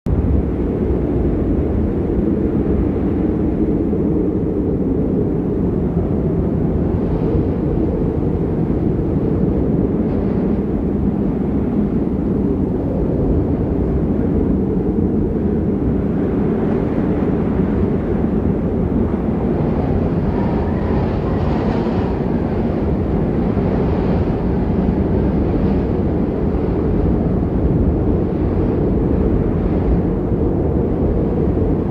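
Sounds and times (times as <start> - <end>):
snowstorm wind roaring: 0.1 - 31.9.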